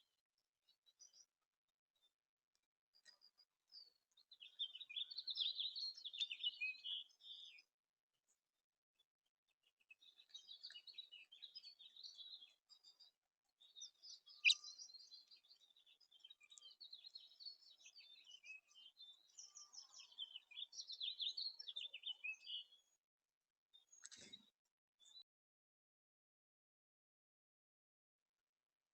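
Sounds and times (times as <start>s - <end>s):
songbirds chirping and twittering: 0.0s - 8.4s, 9.0s - 23.1s, 23.7s - 25.3s.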